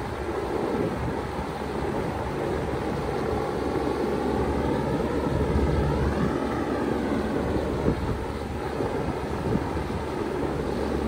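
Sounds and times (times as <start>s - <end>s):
heat pump humming: 0.0s - 11.0s.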